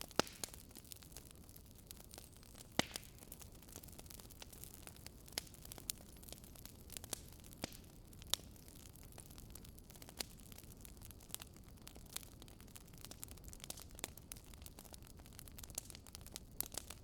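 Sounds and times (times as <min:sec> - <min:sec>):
faint steady hiss: 0:00.0 - 0:17.0
wood fire crackling: 0:00.0 - 0:17.0.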